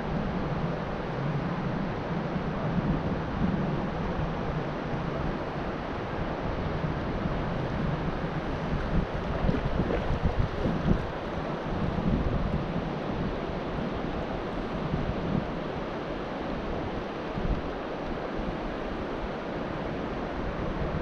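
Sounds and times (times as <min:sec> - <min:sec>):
wind buffeting microphone: 0:00.0 - 0:18.7
river water rushing: 0:00.0 - 0:21.0.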